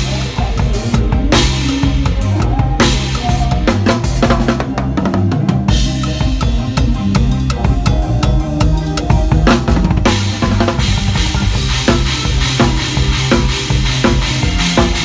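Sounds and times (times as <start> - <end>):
drum kit fast beat: 0.0 - 15.0
low bass line: 0.0 - 15.0.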